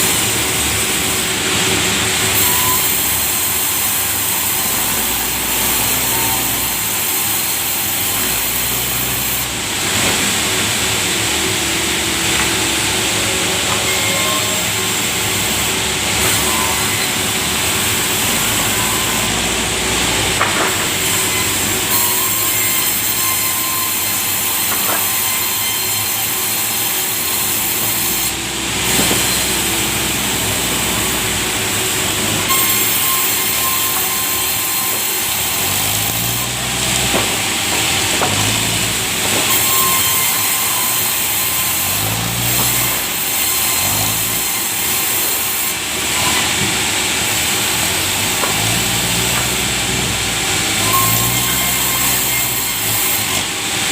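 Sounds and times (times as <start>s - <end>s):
saw cutting through log: 0.0s - 53.9s.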